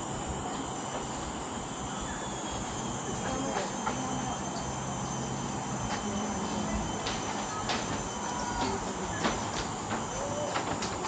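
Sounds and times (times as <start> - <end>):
faint voices: 0.0 - 11.0
insects droning: 0.0 - 11.0.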